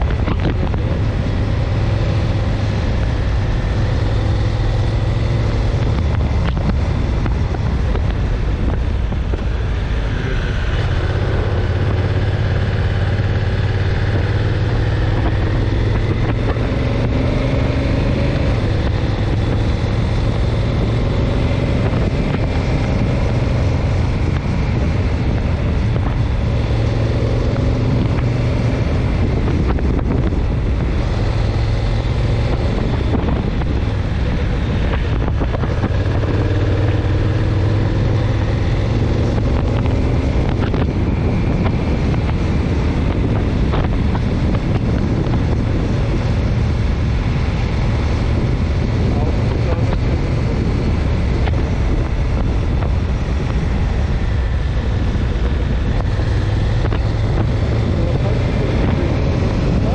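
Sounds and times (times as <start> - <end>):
motorcycle engine running: 0.0 - 59.9
wind rushing across microphone: 0.0 - 59.9.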